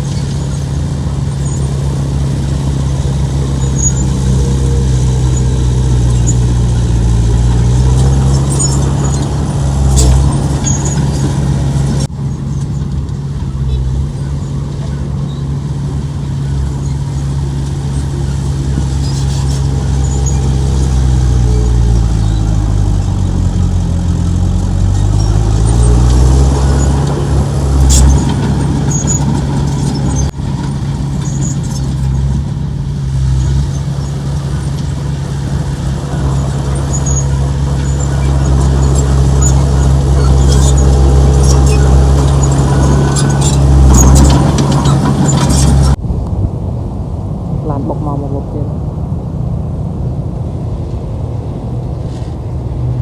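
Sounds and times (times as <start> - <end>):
heavy machinery diesel engine: 0.0 - 53.0.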